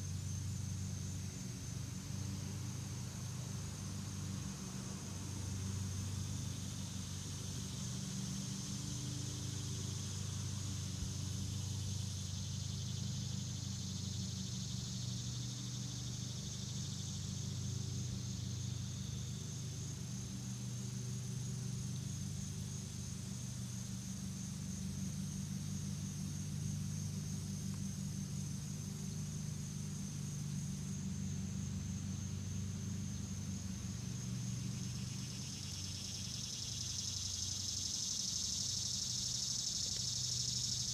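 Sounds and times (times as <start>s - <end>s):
high insect trill: 0.0s - 40.9s
low machine hum: 0.0s - 40.9s.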